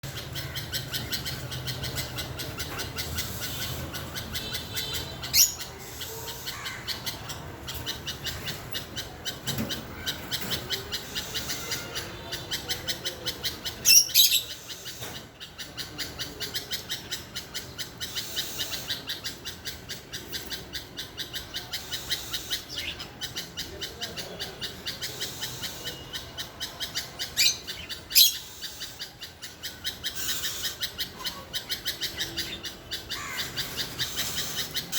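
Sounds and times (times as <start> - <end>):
birds chirping: 0.0 - 34.9
loud sharp bird calls: 0.0 - 34.9.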